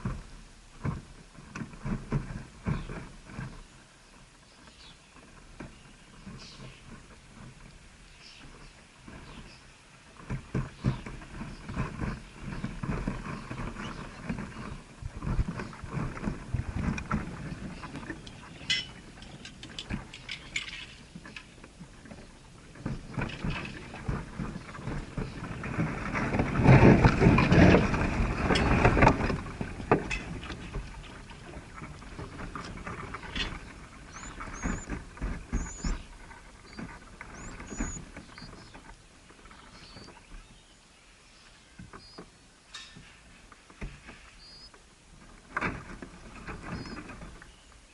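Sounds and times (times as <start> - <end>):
rustling and scratching: 0.0 - 47.9.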